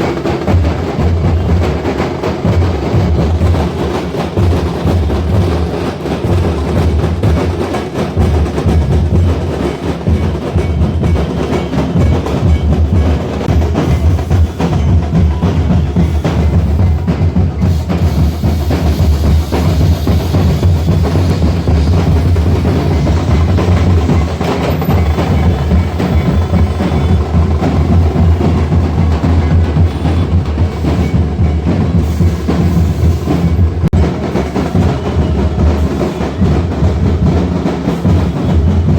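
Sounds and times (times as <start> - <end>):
booming bass drum: 0.0 - 38.9
procession drums playing: 0.0 - 38.9.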